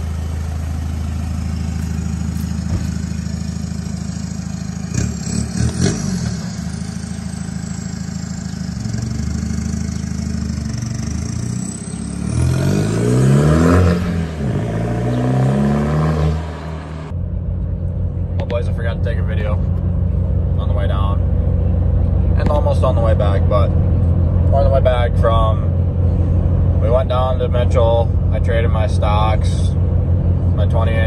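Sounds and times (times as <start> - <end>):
diesel engine revving: 0.0 - 31.0.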